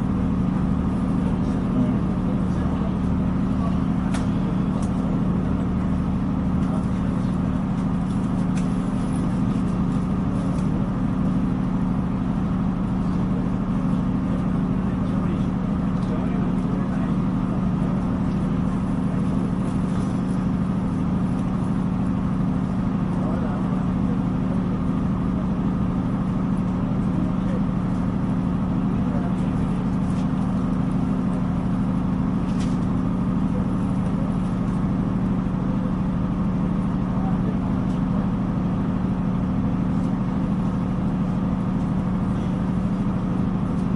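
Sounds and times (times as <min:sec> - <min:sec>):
train engine hum from inside: 0:00.0 - 0:43.9.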